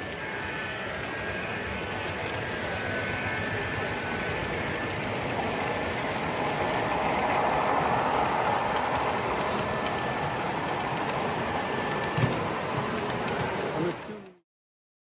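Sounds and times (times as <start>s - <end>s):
model train rolling hum: 0.0s - 14.4s.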